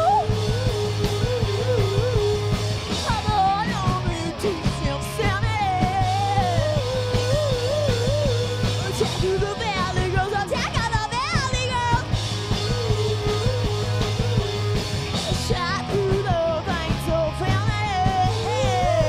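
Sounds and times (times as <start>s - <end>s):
live rock band playing: 0.0s - 19.0s
low bass line: 0.0s - 19.0s.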